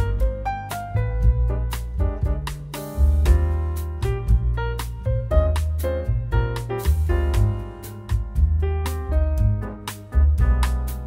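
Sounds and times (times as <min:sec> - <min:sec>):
instrumental piano music: 0:00.0 - 0:11.0
low bass line: 0:00.0 - 0:11.0.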